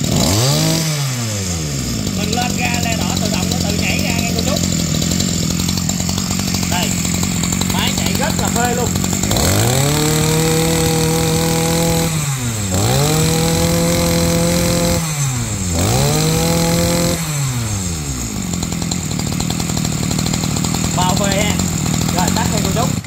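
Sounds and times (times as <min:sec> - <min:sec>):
brush cutter engine revving and idling: 0:00.0 - 0:23.0.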